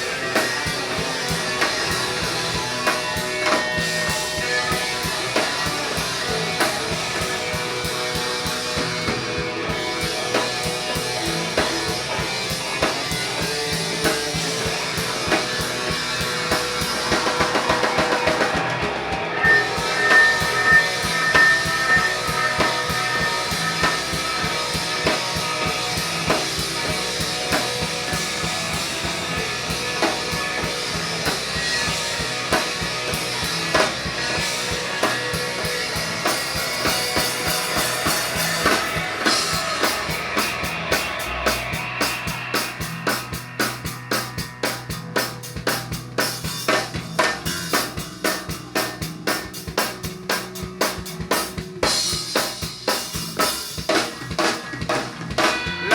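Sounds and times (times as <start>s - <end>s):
distorted guitars: 0.0s - 55.9s
drum kit: 0.0s - 55.9s
fast drum roll: 0.0s - 55.9s.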